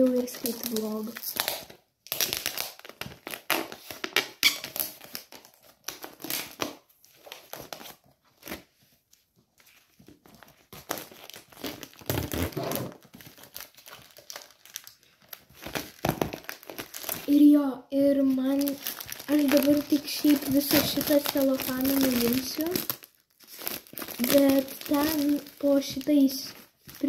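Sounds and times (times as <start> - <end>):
plastic film peeling and crinkling: 0.0 - 27.0.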